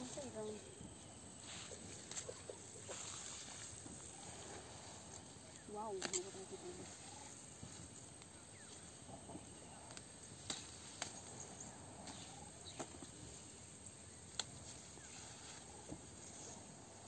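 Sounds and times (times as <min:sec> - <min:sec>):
insect background: 0:00.0 - 0:17.0
rustling of leafy plants: 0:00.0 - 0:17.0.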